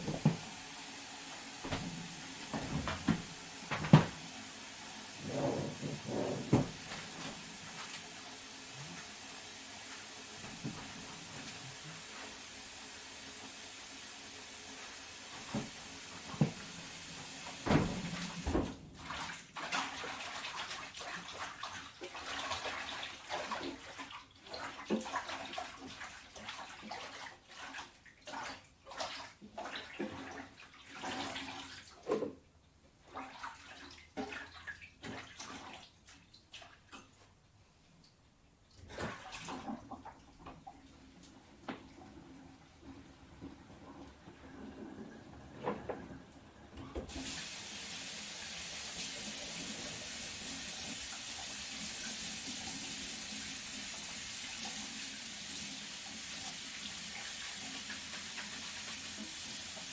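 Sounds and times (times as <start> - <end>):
water splashing in a sink: 0.0 - 32.4, 33.0 - 37.3, 38.7 - 45.9, 46.8 - 59.9.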